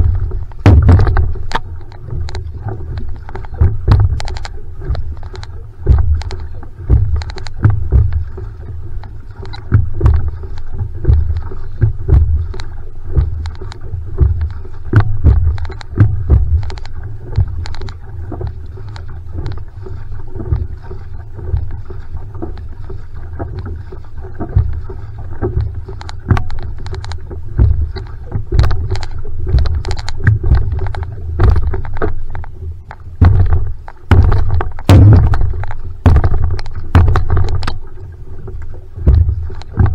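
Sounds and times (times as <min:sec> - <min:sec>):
paddle splashes: 0:00.0 - 0:39.9
paddle stroke thumps through hull: 0:00.0 - 0:39.9
water rushing along hull: 0:00.0 - 0:39.9.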